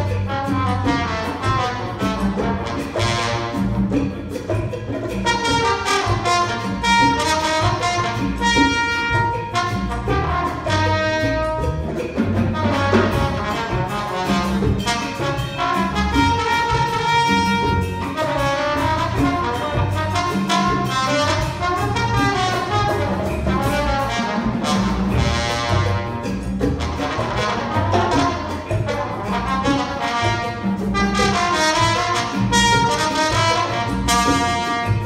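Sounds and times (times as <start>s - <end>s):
jazz band playing: 0.0s - 35.0s.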